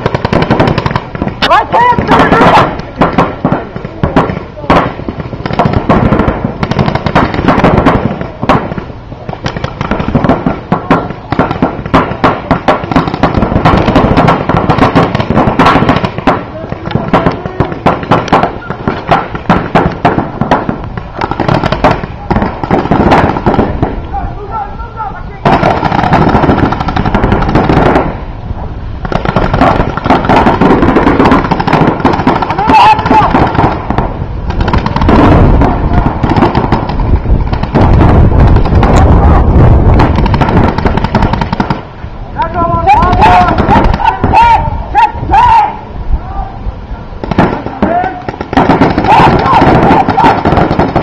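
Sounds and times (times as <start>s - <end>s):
paintball guns firing: 0.0s - 24.1s, 25.4s - 28.2s, 29.0s - 44.6s, 47.2s - 51.0s.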